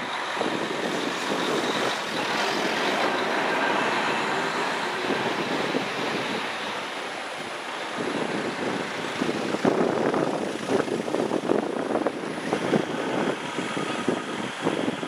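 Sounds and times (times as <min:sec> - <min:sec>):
mechanical drone with rushing: 0:00.0 - 0:15.0.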